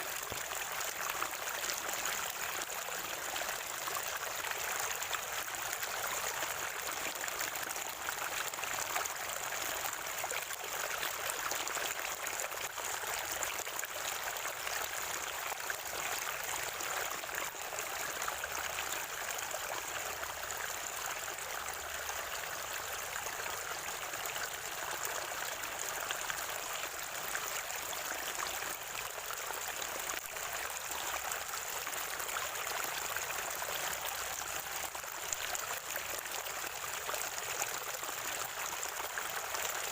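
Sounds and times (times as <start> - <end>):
spring water flowing and gurgling: 0.0 - 39.9.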